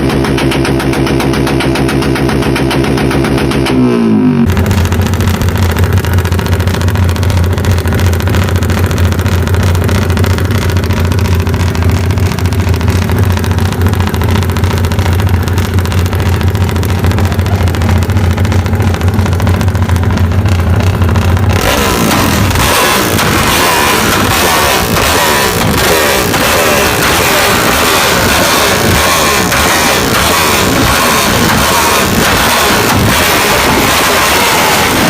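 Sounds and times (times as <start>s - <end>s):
motorcycle engine running loudly: 0.0s - 35.0s.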